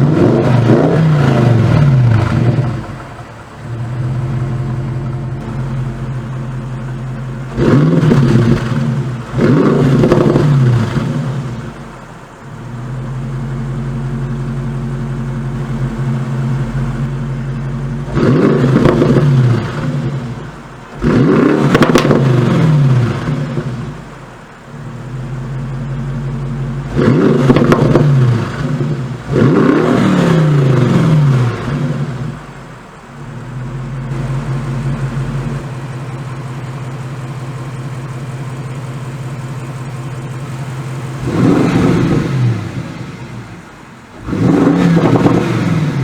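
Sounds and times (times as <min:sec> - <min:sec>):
car engine idling and revving: 0:00.0 - 0:46.0.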